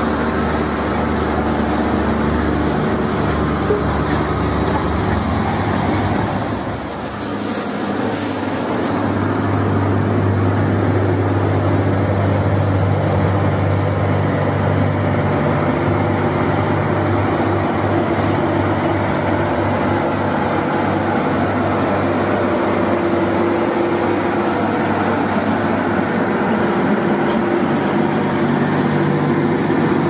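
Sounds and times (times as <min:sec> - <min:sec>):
heavy diesel trucks passing: 0:00.0 - 0:30.0.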